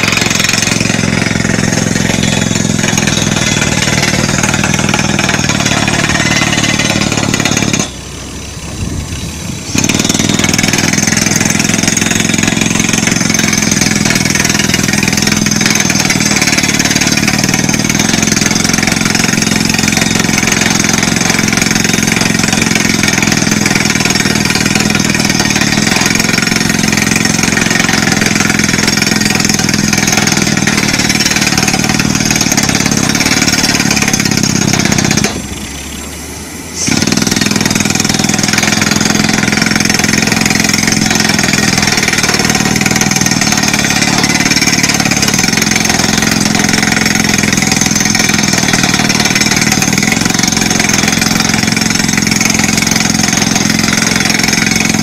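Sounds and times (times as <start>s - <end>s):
drill rig drilling into rock: 0.0s - 8.2s, 8.8s - 36.2s, 36.8s - 55.0s.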